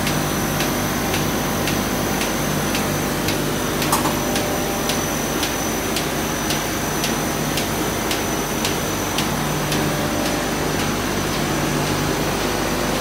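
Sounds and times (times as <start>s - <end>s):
regular machine tick: 0.0s - 12.0s
high machine whine: 0.0s - 13.0s
paper machine hum: 0.0s - 13.0s.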